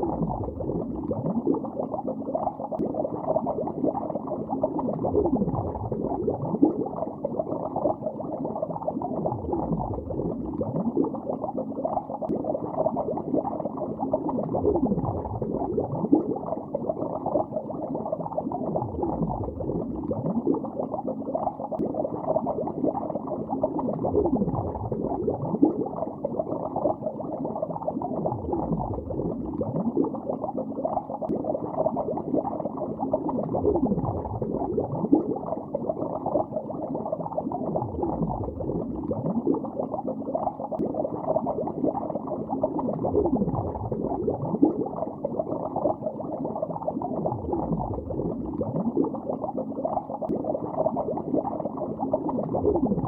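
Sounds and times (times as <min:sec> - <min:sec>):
muffled underwater bubbling: 0:00.0 - 0:53.0.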